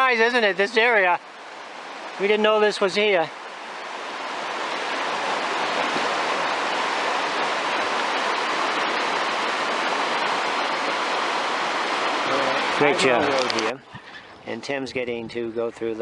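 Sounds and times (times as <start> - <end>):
river rapids rushing: 0.0 - 14.4.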